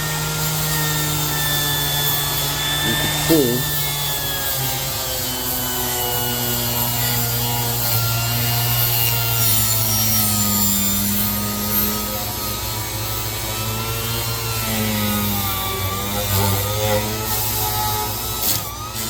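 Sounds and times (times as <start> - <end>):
orbital sander grinding on metal: 0.0 - 19.0.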